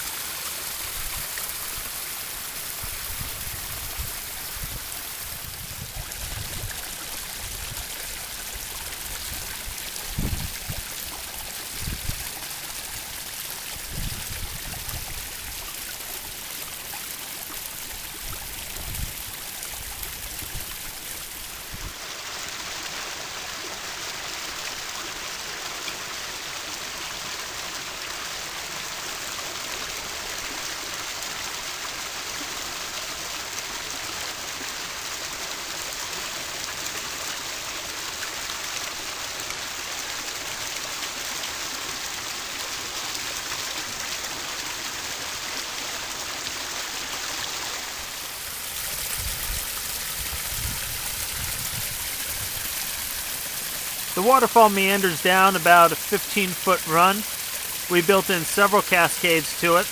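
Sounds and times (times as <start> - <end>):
waterfall splashing into pond: 0.0 - 59.9.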